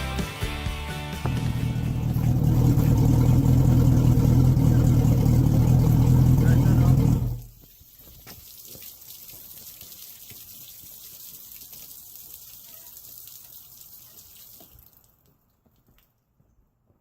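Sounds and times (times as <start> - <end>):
running and trickling water: 1.9 - 16.0.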